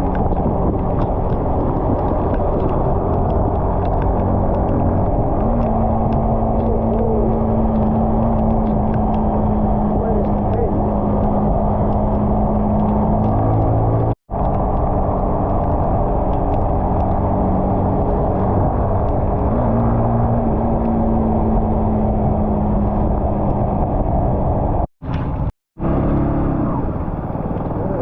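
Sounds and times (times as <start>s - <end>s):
motorcycle engine running: 0.0s - 23.6s.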